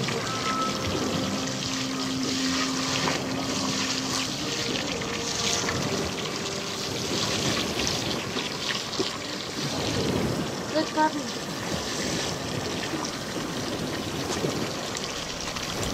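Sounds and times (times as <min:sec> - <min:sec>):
water trickling and splashing: 0:00.0 - 0:15.9.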